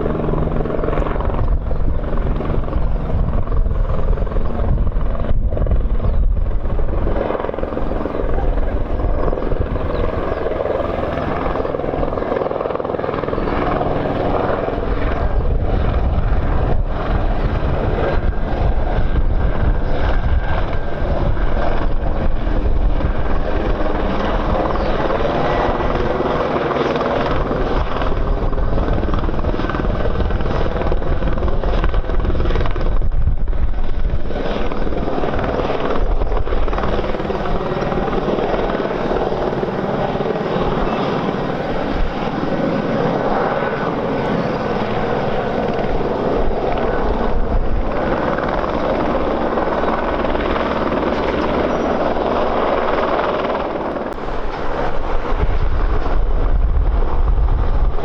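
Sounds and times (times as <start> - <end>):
jet engines running: 0.0 - 58.0
wind buffeting microphone: 0.0 - 58.0.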